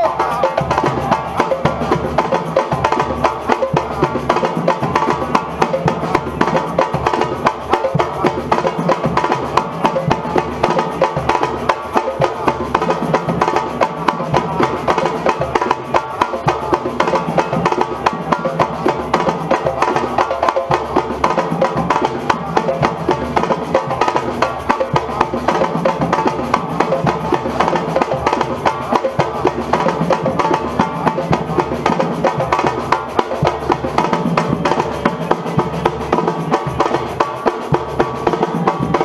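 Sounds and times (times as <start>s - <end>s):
samba drum ensemble: 0.0s - 39.0s.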